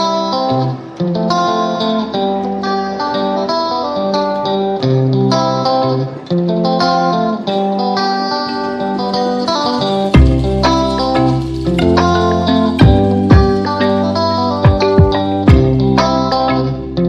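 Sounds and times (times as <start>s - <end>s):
plucked guitar music: 0.0s - 17.0s.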